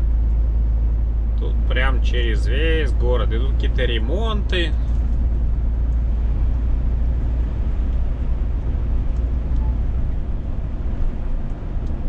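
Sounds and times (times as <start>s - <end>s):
truck engine drone: 0.0s - 12.0s
tyre and road noise: 0.0s - 12.0s.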